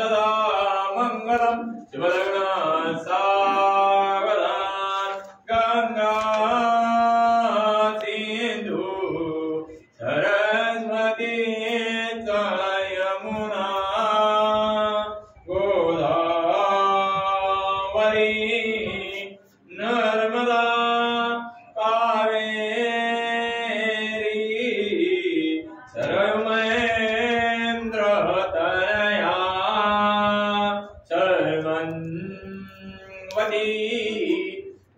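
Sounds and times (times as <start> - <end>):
person chanting a melody: 0.0 - 34.9.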